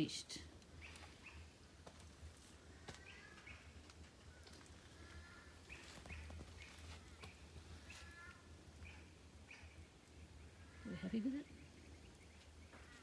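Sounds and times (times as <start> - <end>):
distant birds calling: 0.0 - 13.0.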